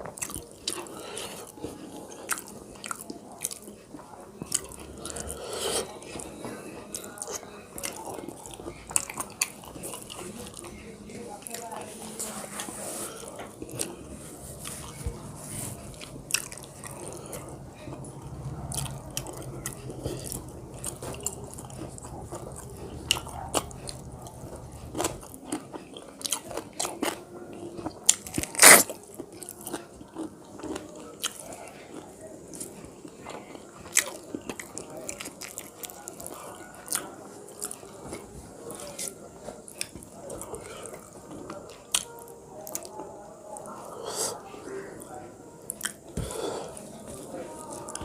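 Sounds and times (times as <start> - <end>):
low background hum: 0.0 - 48.0.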